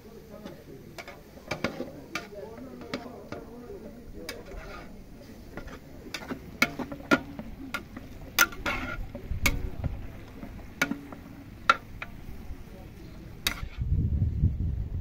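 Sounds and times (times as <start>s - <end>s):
utensils clinking against cookware: 0.4s - 13.7s.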